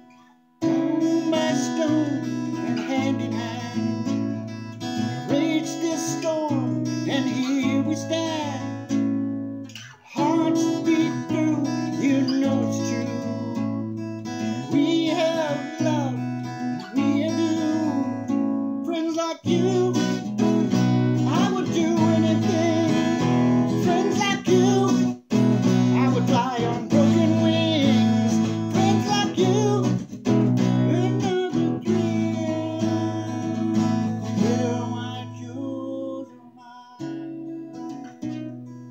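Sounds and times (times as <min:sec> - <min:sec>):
man singing: 0:00.0 - 0:09.2, 0:10.0 - 0:38.4
strummed acoustic guitar: 0:00.0 - 0:38.9.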